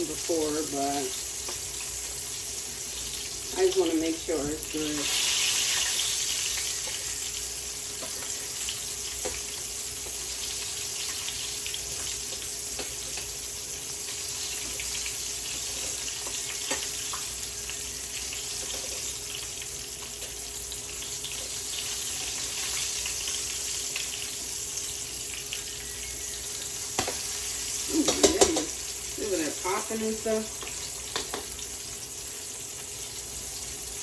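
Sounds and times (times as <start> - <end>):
oil popping and crackling: 0.0 - 32.1
chicken deep-frying in oil: 0.0 - 34.0.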